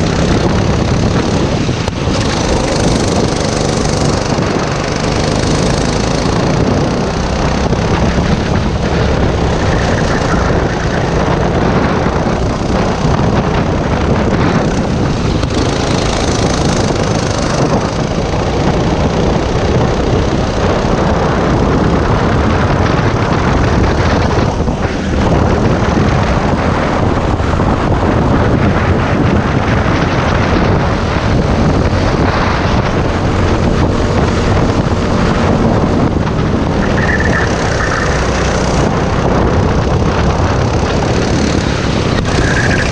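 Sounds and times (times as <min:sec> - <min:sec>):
kart engine running hard: 0:00.0 - 0:42.9
wind buffeting microphone: 0:00.0 - 0:42.9.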